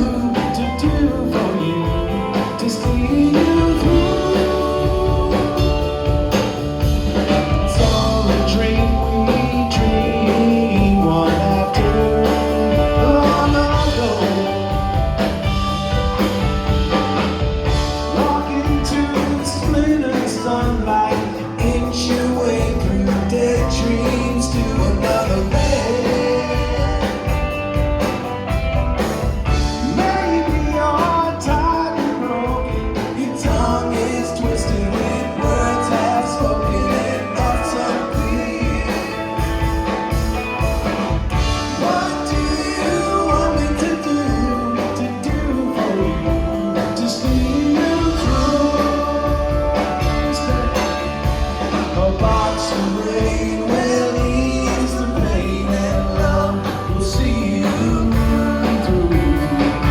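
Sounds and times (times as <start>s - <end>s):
person singing: 0.0s - 6.6s, 7.2s - 15.5s, 17.7s - 28.0s, 29.5s - 40.3s, 41.3s - 59.9s
live rock band playing: 0.0s - 59.9s.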